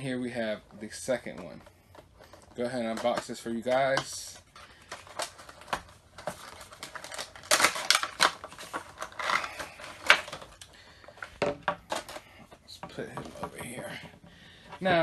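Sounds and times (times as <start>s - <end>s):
plastic insert rustling and clicking: 1.2s - 15.0s.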